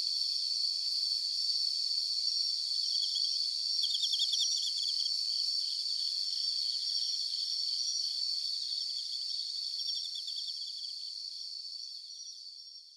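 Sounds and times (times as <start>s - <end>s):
crickets trilling: 0.0s - 12.9s.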